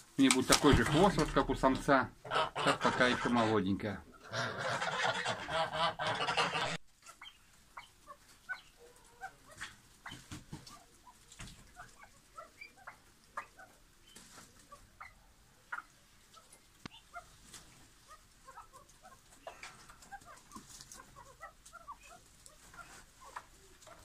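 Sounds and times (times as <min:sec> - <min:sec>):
pheasants chirping and clucking: 0:00.0 - 0:24.0.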